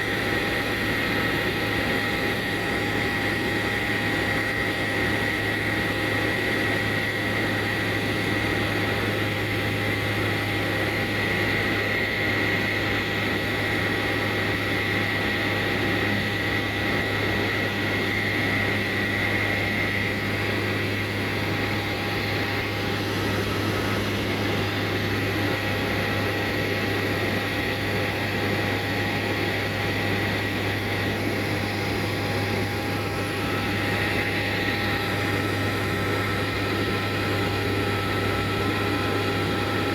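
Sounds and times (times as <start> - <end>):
propeller airplane engine drone: 0.0 - 39.9.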